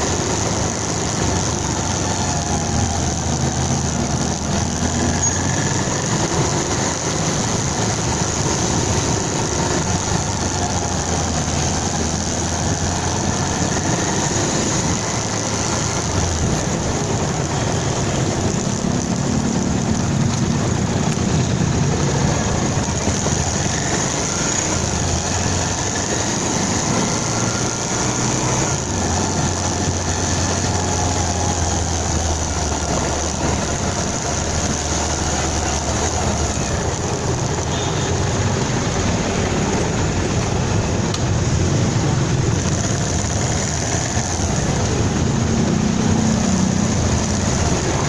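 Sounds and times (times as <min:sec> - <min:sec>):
motorcycle engine running: 0:00.0 - 0:48.0
road and wind noise: 0:00.0 - 0:48.0.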